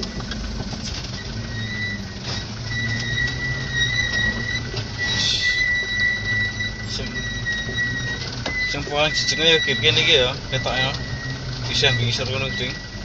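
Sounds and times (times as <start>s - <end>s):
high-pitched whine: 0.0s - 13.0s
truck engine hum: 0.0s - 13.0s.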